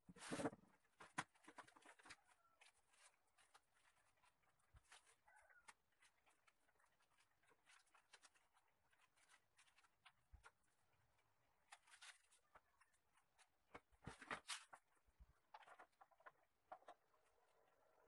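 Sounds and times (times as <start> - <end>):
plastic leaves rustling: 0.1 - 16.4.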